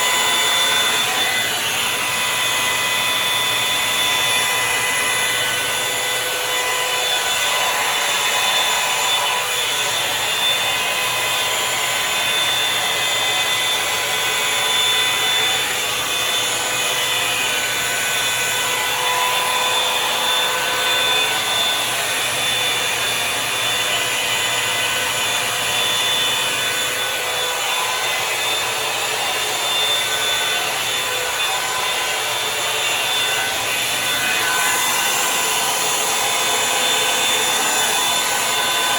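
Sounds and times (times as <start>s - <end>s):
hair dryer air rushing: 0.0s - 17.7s, 18.8s - 38.9s
motor whine: 0.0s - 38.9s.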